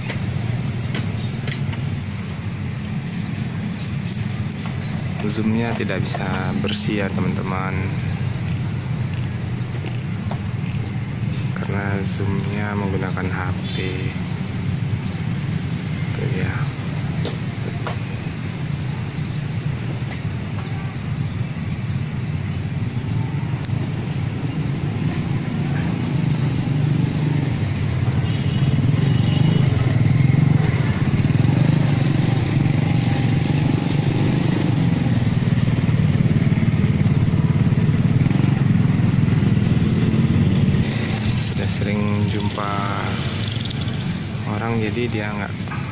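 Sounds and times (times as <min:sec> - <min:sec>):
vehicle engine rumbling: 0:00.0 - 0:45.9.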